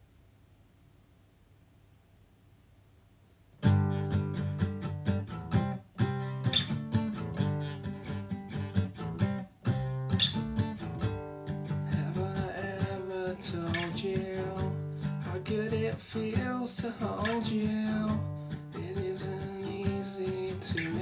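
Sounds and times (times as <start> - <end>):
acoustic guitar strumming chords: 3.6 - 21.0.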